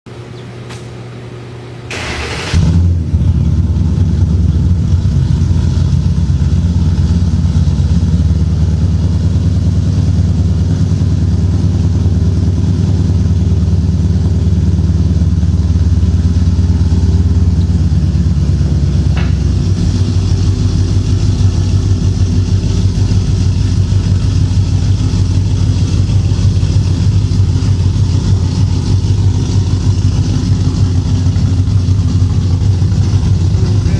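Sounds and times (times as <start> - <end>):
car engine cranking and idling: 1.9 - 33.9
deep loud engine idle: 2.0 - 33.9.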